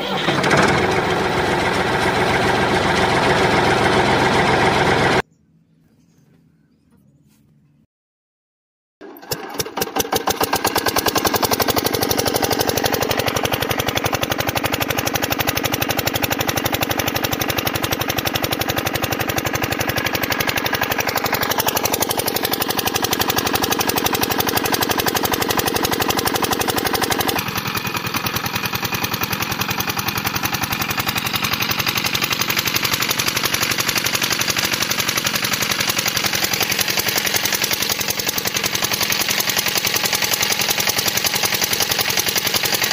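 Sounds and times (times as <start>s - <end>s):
small diesel engine rattling: 0.0s - 5.2s, 9.0s - 42.9s.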